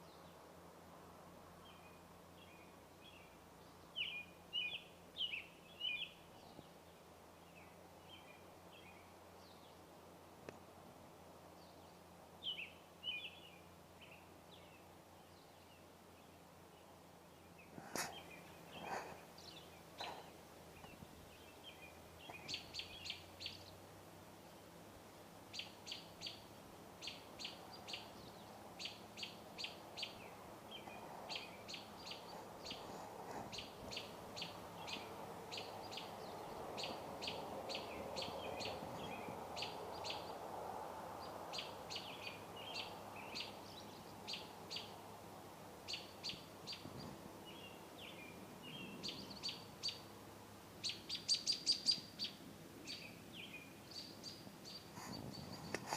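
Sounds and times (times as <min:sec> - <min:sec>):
birds chirping: 0:01.6 - 0:09.8, 0:11.5 - 0:23.8, 0:25.5 - 0:55.9.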